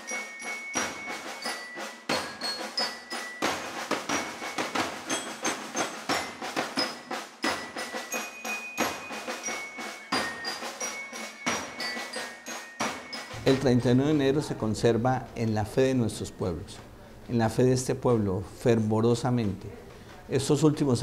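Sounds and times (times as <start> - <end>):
mallet percussion music: 0.0 - 17.0.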